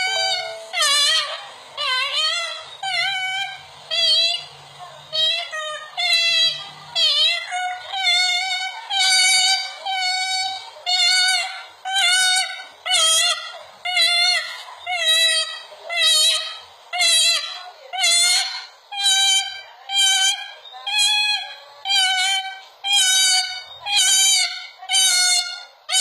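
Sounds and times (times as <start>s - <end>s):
cockatoo calling: 0.0s - 26.0s.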